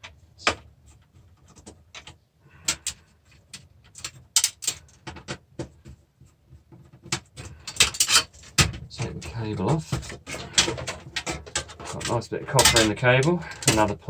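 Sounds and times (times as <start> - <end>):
clicks and knocks of hand work: 0.0 - 14.0.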